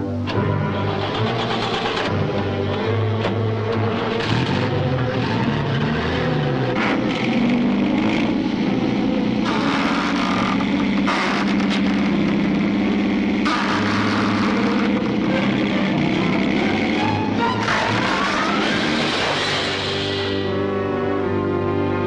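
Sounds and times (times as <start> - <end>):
mechanical motor drone: 1.0 - 20.9.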